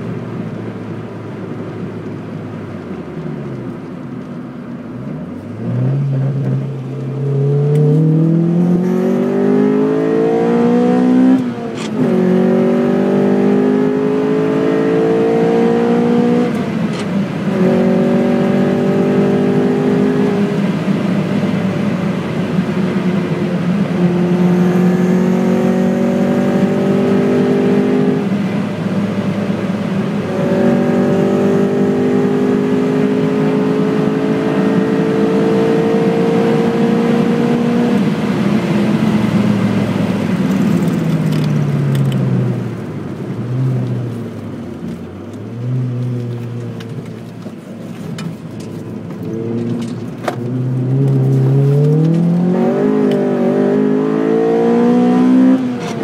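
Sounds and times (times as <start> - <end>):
car engine revving: 5.3 - 56.0.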